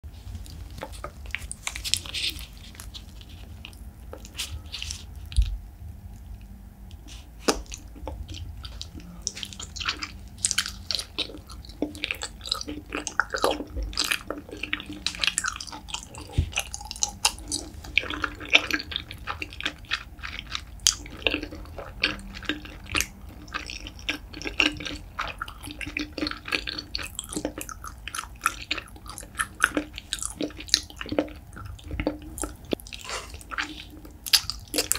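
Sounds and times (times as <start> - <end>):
person chewing with wet clicks: 0.4 - 34.9.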